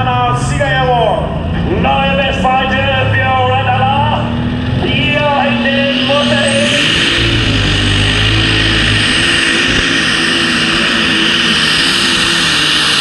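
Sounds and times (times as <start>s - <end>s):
high whine: 0.0s - 13.0s
tractor engine at full power: 0.0s - 13.0s.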